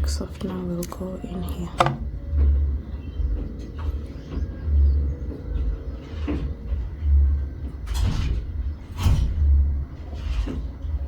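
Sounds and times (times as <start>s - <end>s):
low rumble on microphone: 0.0s - 11.0s.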